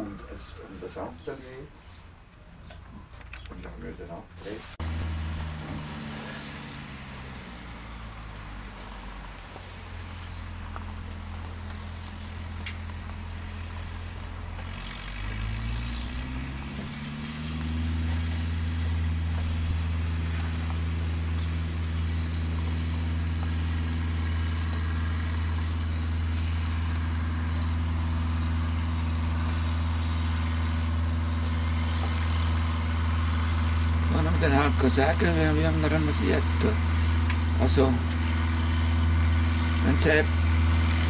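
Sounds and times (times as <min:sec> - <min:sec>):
tractor engine revving: 0:04.4 - 0:41.0.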